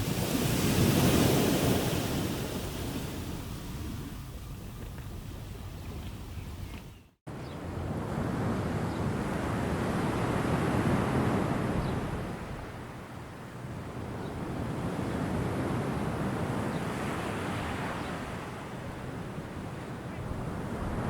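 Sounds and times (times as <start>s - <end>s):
ocean waves washing onto shore: 0.0s - 6.3s, 7.6s - 21.0s.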